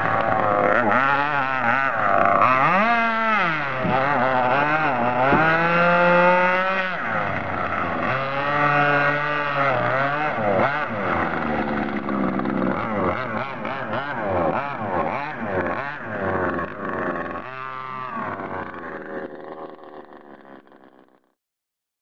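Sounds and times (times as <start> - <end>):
rc boat motor running: 0.0 - 21.3.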